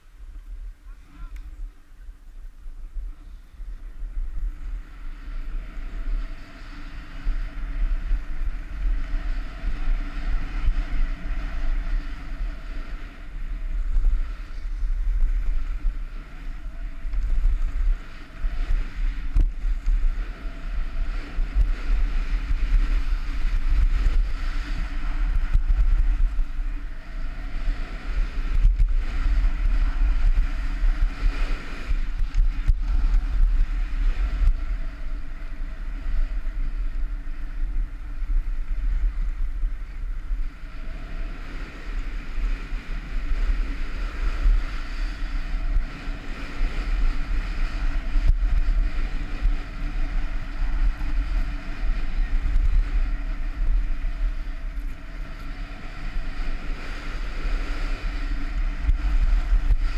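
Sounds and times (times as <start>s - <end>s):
wind buffeting microphone: 0.0s - 59.9s
skis scraping over packed snow: 2.9s - 59.9s.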